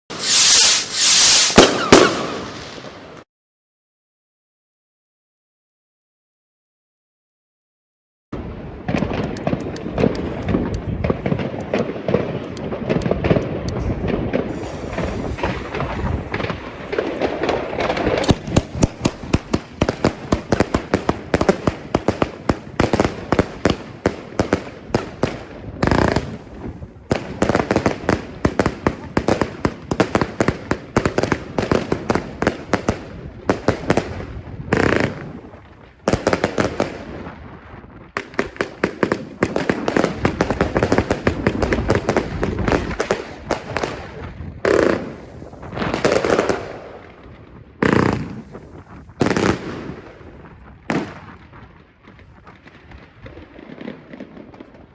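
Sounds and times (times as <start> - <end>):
firework shots and bursts: 0.1 - 3.2, 8.4 - 54.9.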